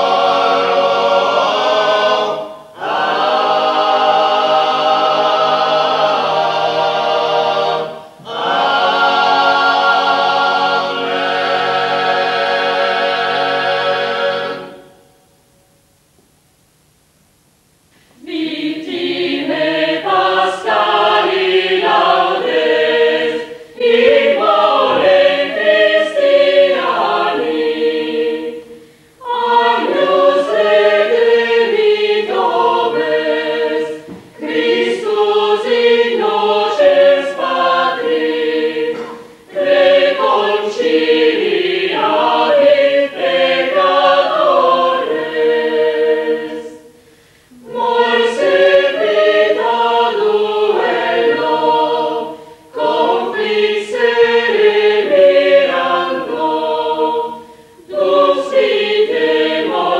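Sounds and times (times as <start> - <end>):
women's choir singing: 0.0 - 15.1, 18.2 - 59.9.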